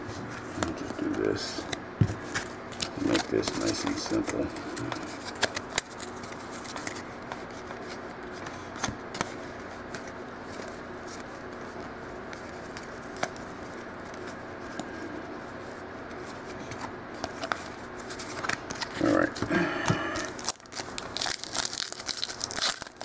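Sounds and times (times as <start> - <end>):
trading cards shuffled by hand: 0.3 - 19.5.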